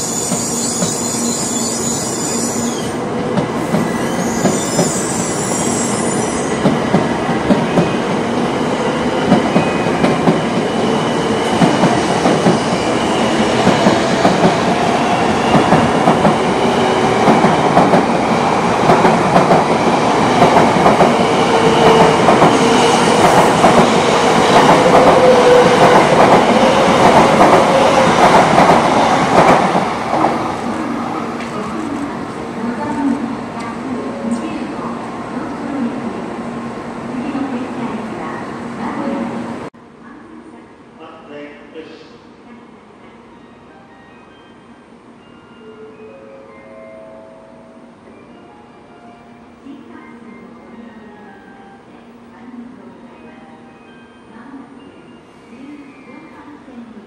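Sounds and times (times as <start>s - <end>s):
rush of passing train: 0.0s - 57.0s.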